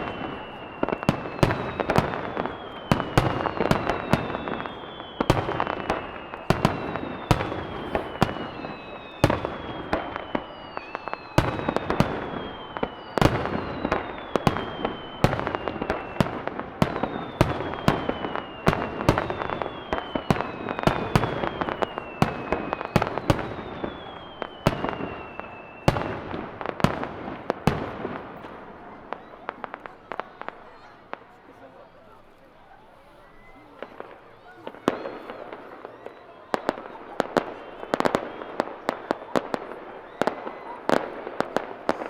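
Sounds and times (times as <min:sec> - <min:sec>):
falling firework whistles: 0:00.0 - 0:31.2, 0:32.9 - 0:42.0
fireworks crackling: 0:00.0 - 0:42.0.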